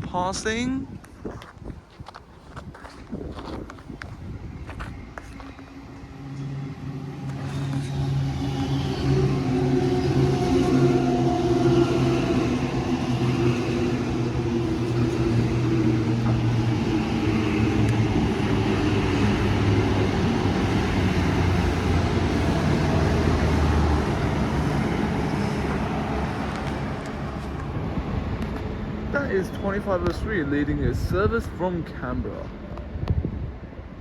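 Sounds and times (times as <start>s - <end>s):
diesel railcar engines: 0.0s - 34.0s
train wheel rumble: 1.3s - 34.0s.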